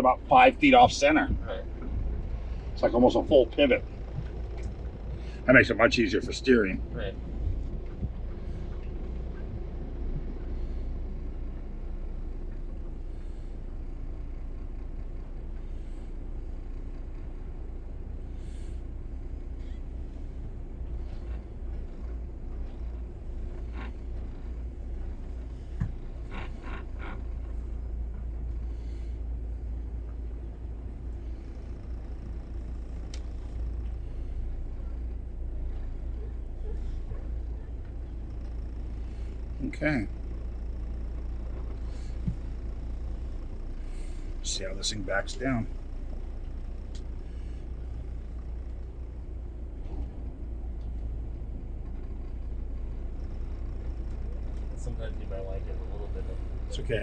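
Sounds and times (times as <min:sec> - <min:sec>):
diesel engines low rumble: 0:00.0 - 0:57.0.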